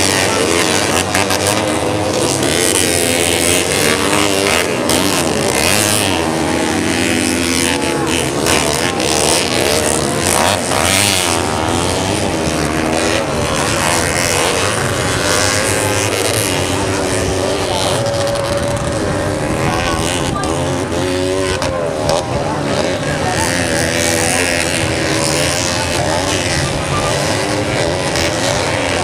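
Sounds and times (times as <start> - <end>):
motorcycles revving hard: 0.0 - 29.0.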